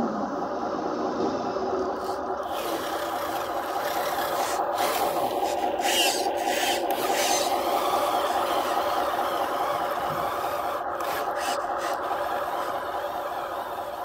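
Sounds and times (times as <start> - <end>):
rough rasping scraping: 2.0 - 14.0
small motors and gears whirring: 2.0 - 14.0.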